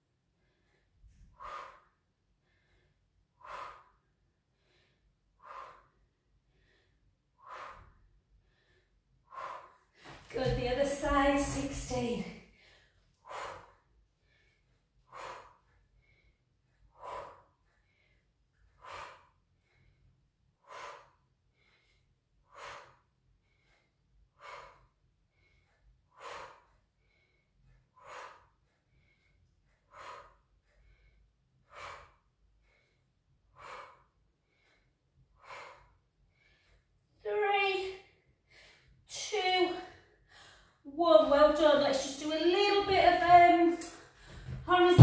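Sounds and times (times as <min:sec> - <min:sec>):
woman breathing rhythmically: 0:00.0 - 0:45.0.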